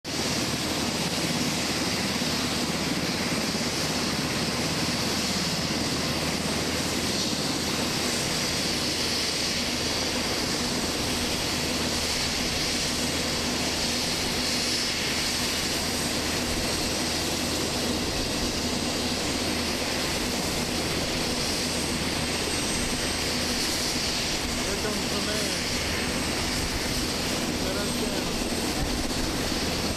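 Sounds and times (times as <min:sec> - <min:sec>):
helicopter engines whining: 0:00.1 - 0:29.9
helicopter rotor turning: 0:00.1 - 0:29.9.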